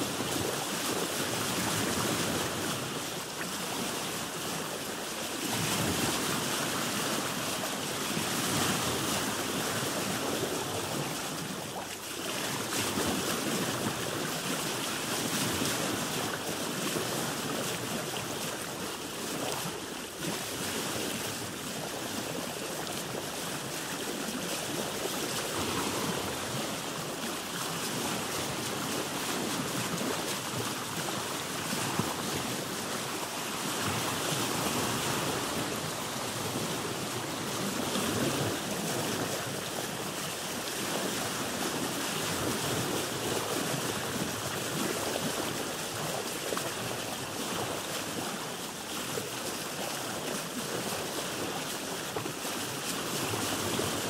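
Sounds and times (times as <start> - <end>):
waves splashing around boat: 0.0 - 54.0.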